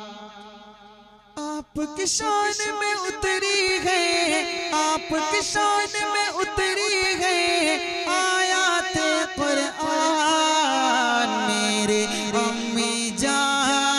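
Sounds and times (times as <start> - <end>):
person singing devotional song: 0.0 - 13.9.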